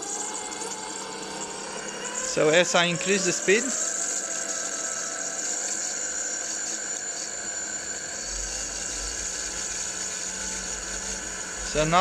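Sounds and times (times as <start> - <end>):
motor whine: 0.0 - 12.0.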